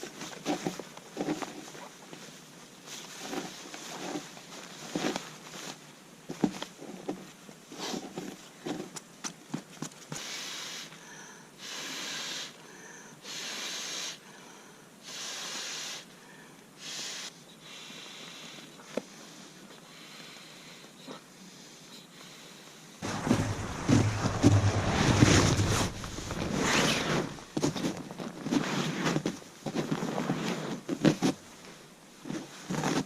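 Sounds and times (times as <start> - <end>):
soft steady hiss: 0.0 - 33.0.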